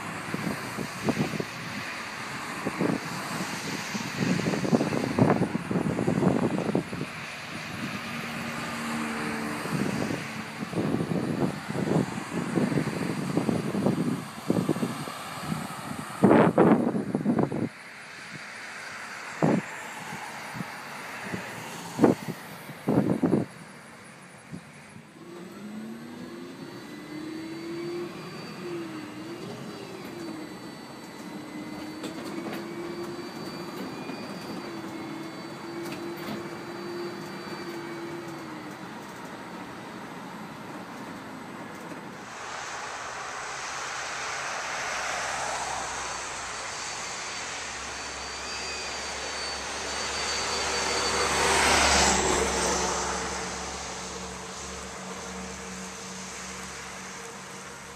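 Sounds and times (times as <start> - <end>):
bus road and tyre noise: 0.0 - 57.9
electric bus motor whining: 0.0 - 57.9.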